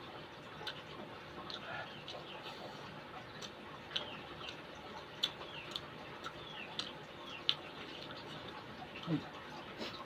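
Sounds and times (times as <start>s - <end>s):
wet mouth chewing clicks: 0.6s - 10.0s.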